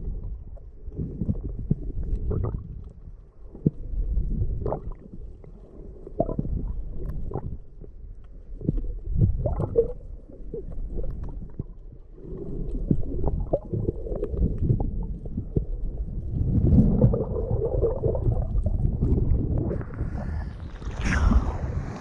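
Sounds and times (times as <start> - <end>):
underwater rumble and sloshing: 0.0 - 22.0.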